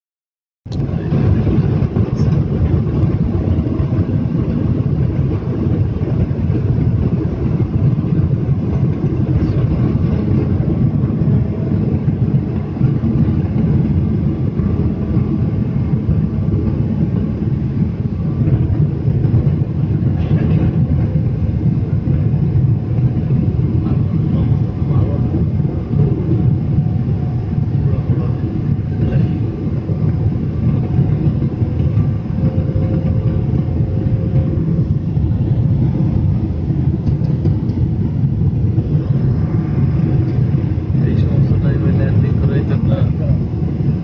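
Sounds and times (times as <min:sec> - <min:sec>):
jet engines rumbling: 0:00.7 - 0:44.0
faint steady tones: 0:02.2 - 0:44.0.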